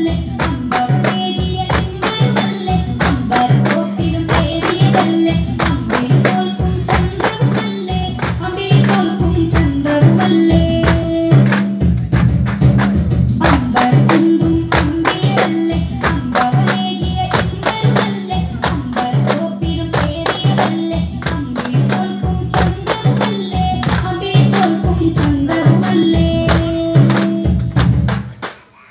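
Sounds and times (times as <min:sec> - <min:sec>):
music with singing: 0:00.0 - 0:28.4
frame drum beat: 0:00.2 - 0:28.3.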